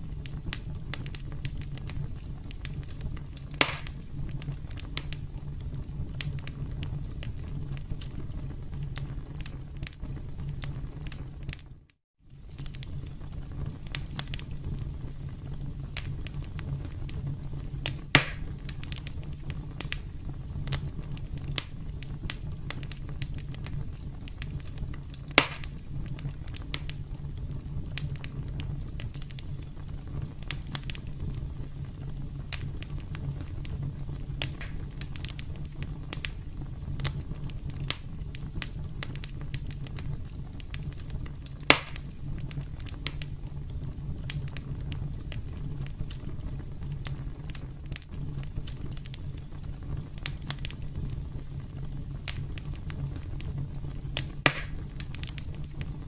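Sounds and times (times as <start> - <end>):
campfire low rumble: 0.0 - 56.0
fire crackles: 0.0 - 56.0
loud fire pops: 0.0 - 56.0.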